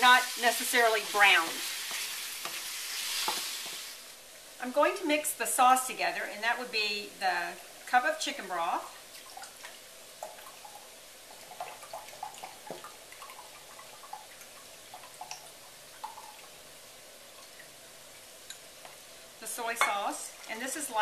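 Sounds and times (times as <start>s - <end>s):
chicken frying in oil: 0.0s - 5.2s, 7.6s - 21.0s.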